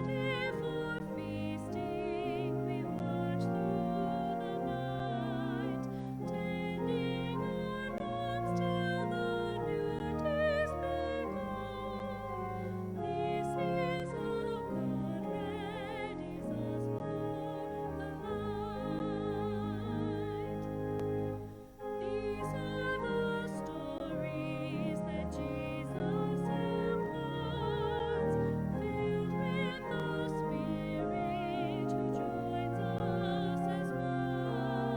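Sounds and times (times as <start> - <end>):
solo classical singing: 0.0 - 34.9
sustained low accompaniment: 0.0 - 34.9.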